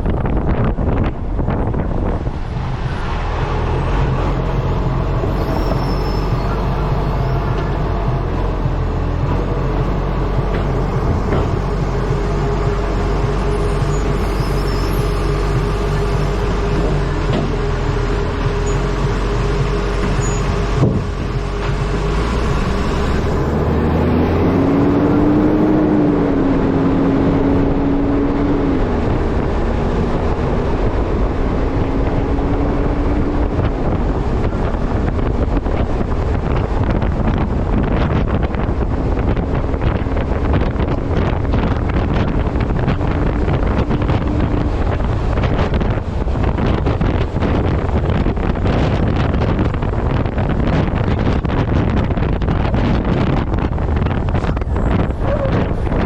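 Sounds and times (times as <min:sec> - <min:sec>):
truck engine drone: 0:00.0 - 0:56.0
wind rush on microphone: 0:00.0 - 0:56.0.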